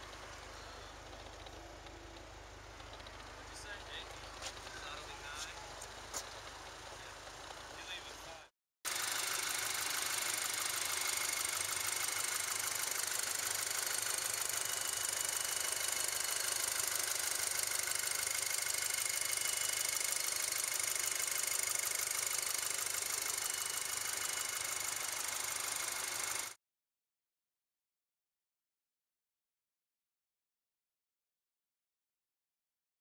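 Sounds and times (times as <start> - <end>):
car engine idling: 0.0 - 26.6.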